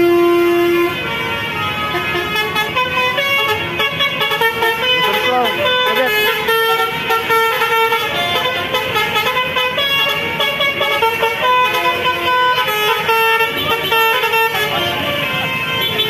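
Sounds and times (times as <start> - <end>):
multi-tone air horns playing tunes: 0.0 - 16.0.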